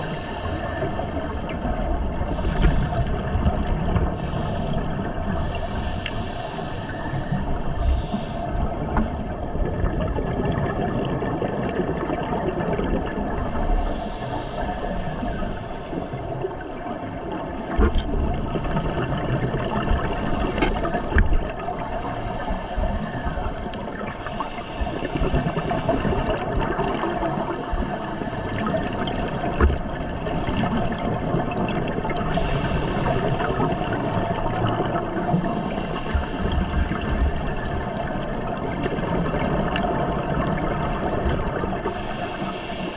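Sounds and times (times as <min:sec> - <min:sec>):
muffled underwater rush: 0:00.0 - 0:42.9.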